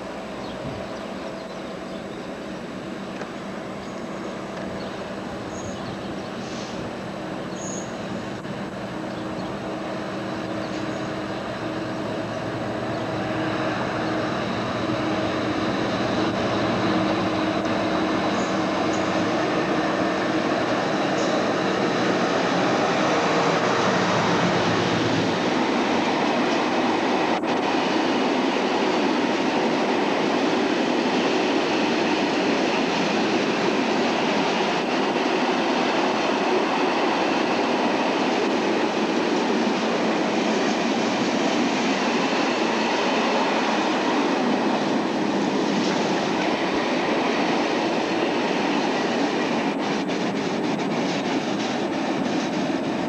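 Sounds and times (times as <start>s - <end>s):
diesel locomotive engine: 0.0s - 53.0s
train wagon wheels rumbling: 0.0s - 53.0s.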